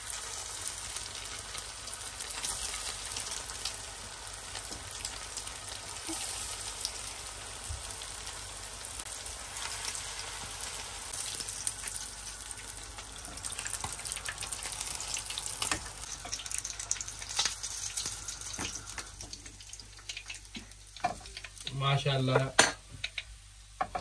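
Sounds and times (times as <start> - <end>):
fish deep-frying in oil: 0.0 - 24.0.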